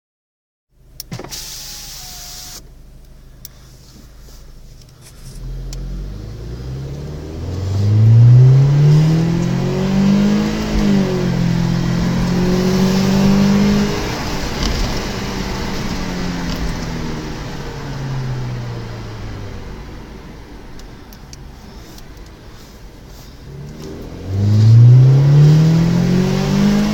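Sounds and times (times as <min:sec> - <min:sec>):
car engine accelerating: 0:03.8 - 0:26.9.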